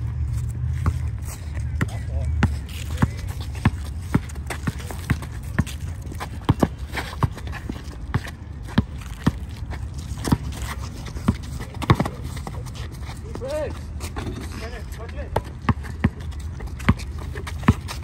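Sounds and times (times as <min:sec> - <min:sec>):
basketball bouncing on concrete: 0:00.7 - 0:12.6, 0:15.3 - 0:18.0.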